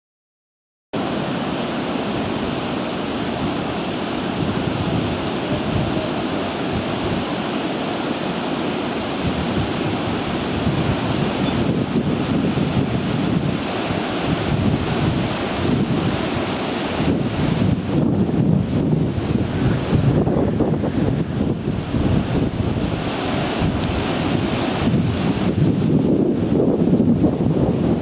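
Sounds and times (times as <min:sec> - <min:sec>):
wind-like rushing noise: 0:01.0 - 0:28.0.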